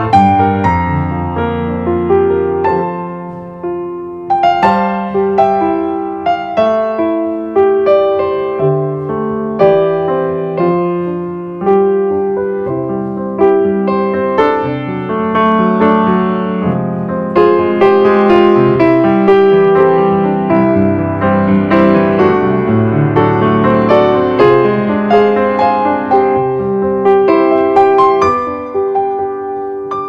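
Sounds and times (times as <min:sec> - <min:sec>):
slow piano music: 0:00.0 - 0:30.0.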